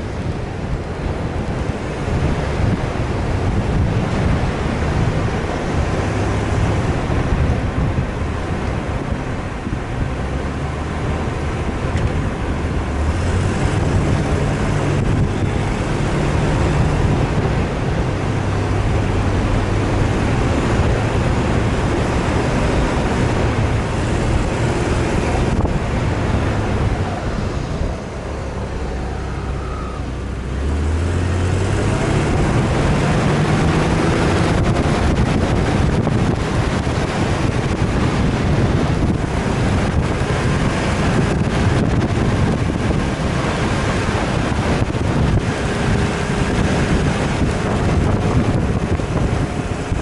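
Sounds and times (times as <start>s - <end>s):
vehicle engine revving: 0.0s - 50.0s
wind noise: 0.0s - 50.0s.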